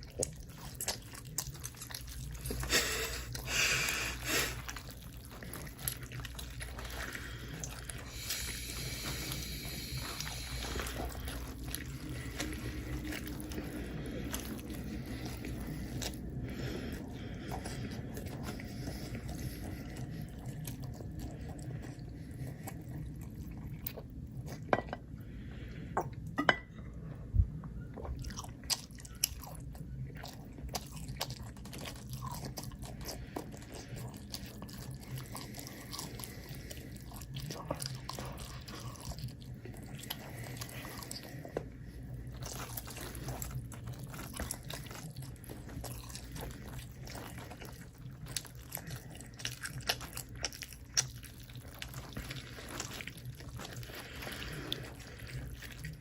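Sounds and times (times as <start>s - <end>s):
chewing crunchy food: 0.0s - 56.0s
steady low hum: 0.0s - 56.0s.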